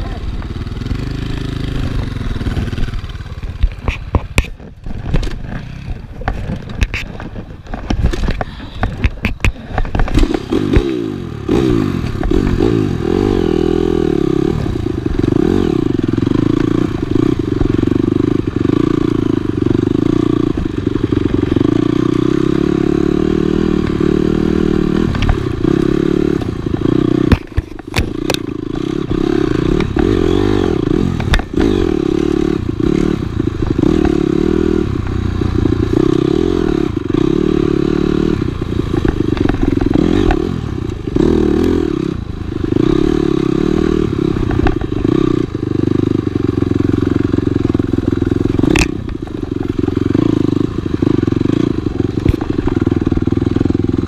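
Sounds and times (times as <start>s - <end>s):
dirt bike engine running: 0.0s - 54.0s
dirt bike rattling over bumps: 0.0s - 54.0s.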